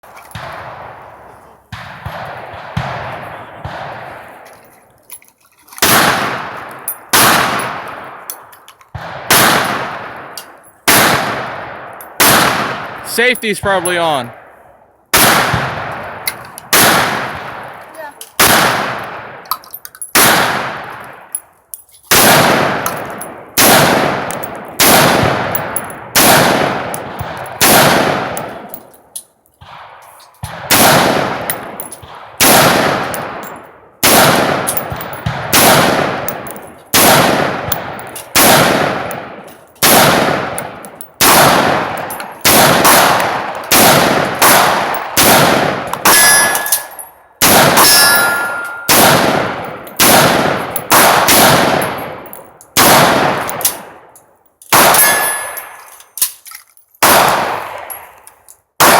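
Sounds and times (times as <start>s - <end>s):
rifle single shots: 0.3s - 4.4s, 5.8s - 8.3s, 8.9s - 17.8s, 18.4s - 19.4s, 20.1s - 21.3s, 22.1s - 28.9s, 29.6s - 55.8s, 57.0s - 58.2s.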